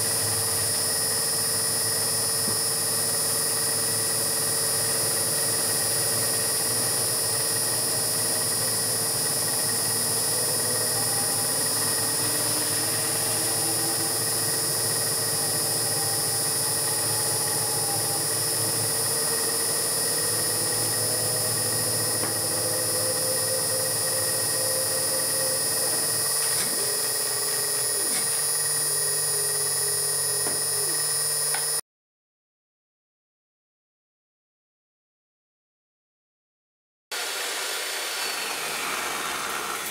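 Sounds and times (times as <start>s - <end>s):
milling machine whine: 0.0s - 31.8s, 37.2s - 39.9s.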